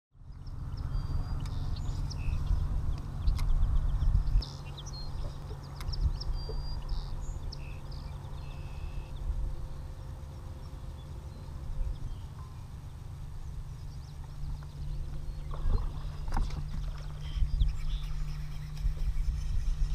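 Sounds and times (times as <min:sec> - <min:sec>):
birds chirping: 0:00.2 - 0:19.9
steady low rumble: 0:00.2 - 0:19.9.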